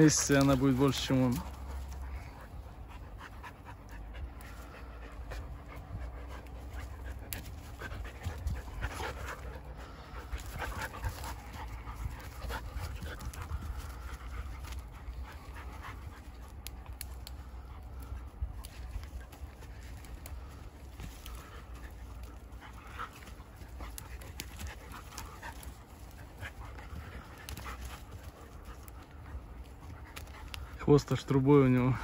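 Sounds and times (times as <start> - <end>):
dog panting: 0.0 - 32.0
steady low rumble: 0.0 - 32.0.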